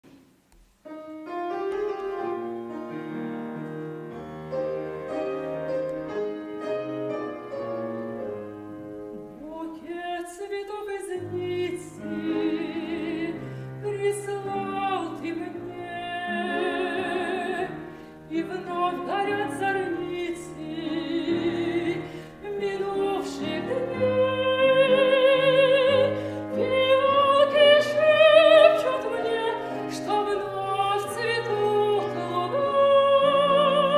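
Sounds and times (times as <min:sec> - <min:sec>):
piano accompaniment: 0:00.7 - 0:33.9
soprano singing: 0:04.5 - 0:33.9.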